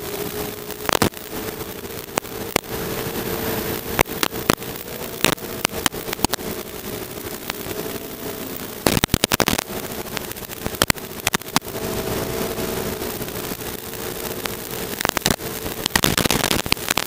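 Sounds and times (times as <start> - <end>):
drone propellers whirring: 0.0 - 17.0
sharp clicks and cracks: 0.8 - 7.8, 8.6 - 11.7, 13.0 - 17.0.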